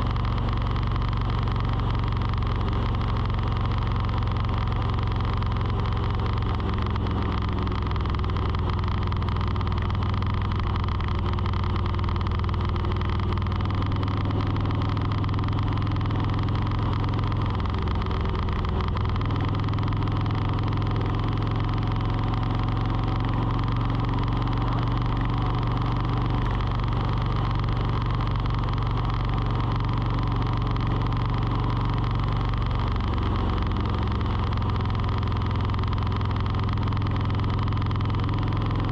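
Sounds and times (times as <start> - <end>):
low engine-like hum: 0.0 - 38.9.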